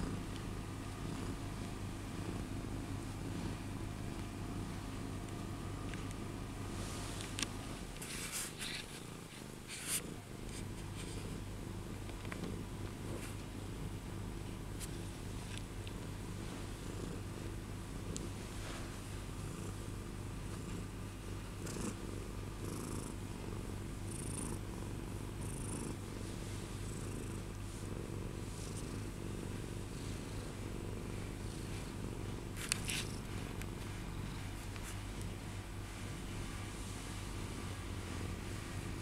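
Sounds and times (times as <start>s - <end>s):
faint rustles: 0.0s - 13.9s, 14.7s - 22.2s, 22.8s - 37.7s
cat purring: 0.0s - 39.0s.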